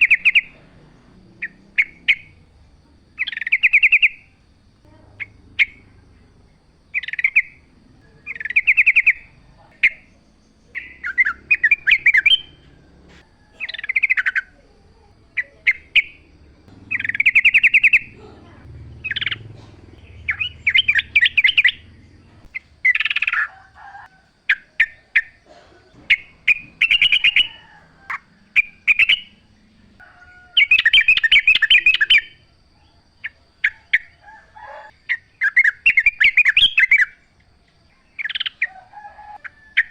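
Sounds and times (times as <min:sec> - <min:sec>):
bulbul singing trilling notes: 0:00.0 - 0:23.9, 0:24.5 - 0:30.0, 0:30.6 - 0:34.2.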